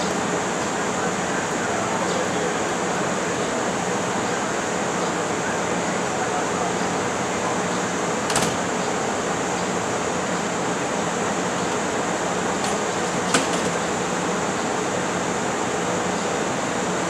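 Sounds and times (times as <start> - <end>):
train machinery whirring hum: 0.0 - 17.0.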